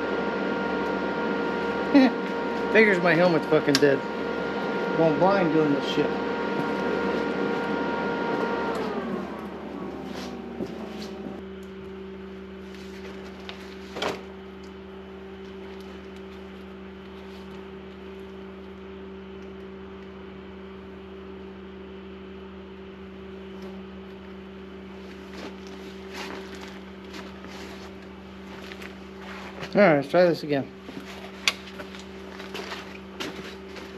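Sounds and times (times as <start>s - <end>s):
machine motor humming: 0.0s - 29.8s.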